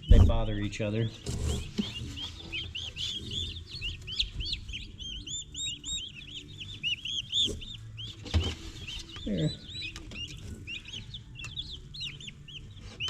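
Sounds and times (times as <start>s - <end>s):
poults and chicks peeping: 0.0s - 13.0s.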